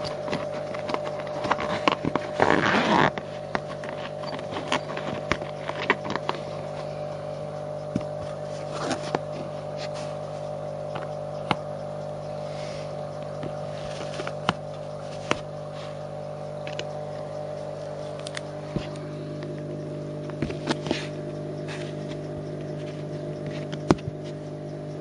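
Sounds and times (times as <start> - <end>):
vehicle engine drone: 0.0 - 25.0.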